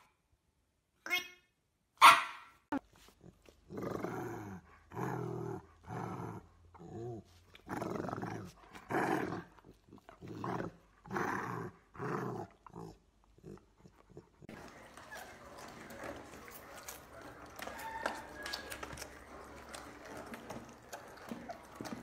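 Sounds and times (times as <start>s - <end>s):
dogs growling in play: 3.0s - 22.0s.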